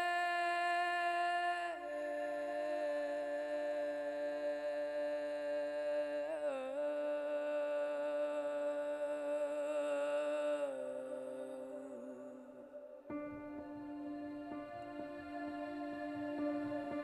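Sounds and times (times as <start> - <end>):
ambient music of long held notes: 0.0 - 17.0.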